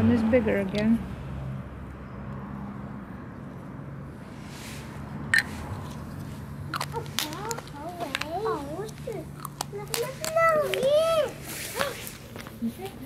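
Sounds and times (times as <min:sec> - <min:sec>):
street background hum: 0:00.0 - 0:13.0.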